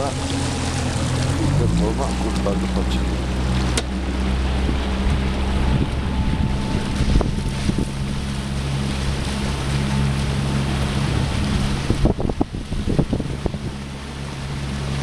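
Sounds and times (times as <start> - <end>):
boat engine humming: 0.0 - 15.0
water washing past: 0.0 - 15.0
wind buffeting microphone: 0.0 - 15.0.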